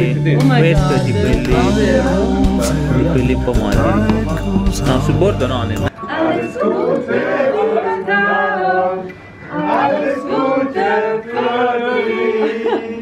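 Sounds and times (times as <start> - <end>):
group singing a birthday tune: 0.0 - 13.0.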